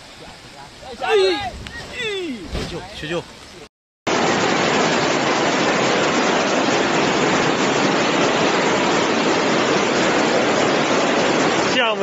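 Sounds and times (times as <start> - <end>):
water rushing in rainstorm: 0.0 - 12.0.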